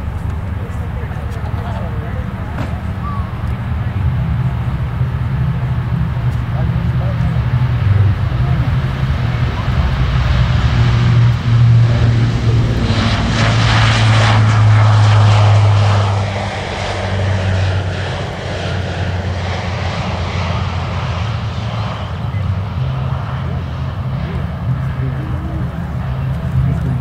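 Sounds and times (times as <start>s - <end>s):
low propeller drone: 0.0s - 27.0s.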